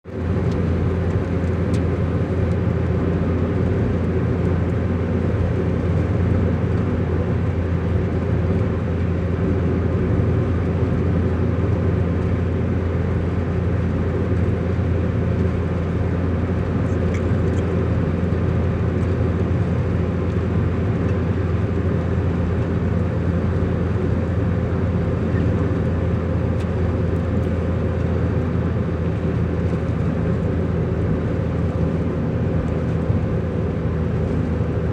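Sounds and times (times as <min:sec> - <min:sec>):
road noise: 0:00.0 - 0:34.9
vehicle engine drone: 0:00.0 - 0:34.9.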